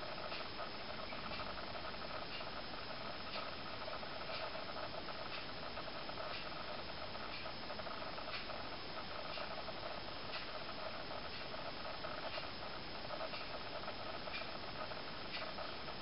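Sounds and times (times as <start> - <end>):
steady hiss: 0.0 - 16.0
faint regular ticking: 0.2 - 16.0.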